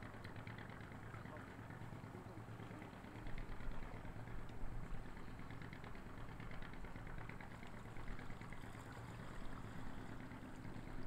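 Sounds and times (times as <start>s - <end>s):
engine idling with low hum: 0.0s - 11.0s.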